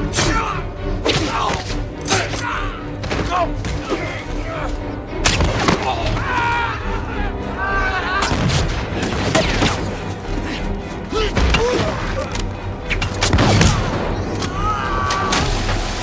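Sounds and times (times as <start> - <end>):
film music score: 0.0 - 16.0.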